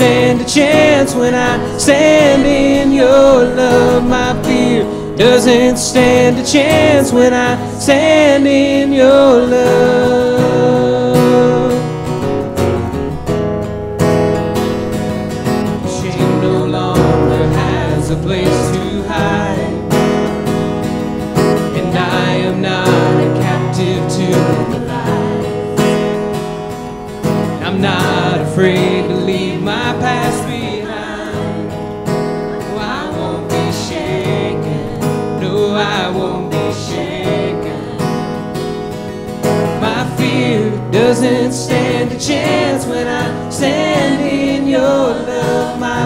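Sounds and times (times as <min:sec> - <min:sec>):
voices singing: 0:00.0 - 0:12.6, 0:15.4 - 0:46.0
strummed acoustic guitar: 0:00.0 - 0:46.0.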